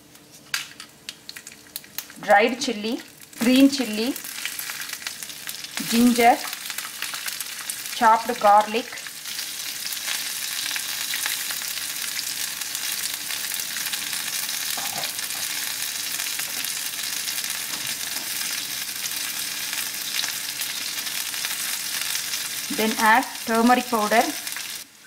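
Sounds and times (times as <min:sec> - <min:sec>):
hot oil sizzling in a frying pan: 0:00.6 - 0:25.0.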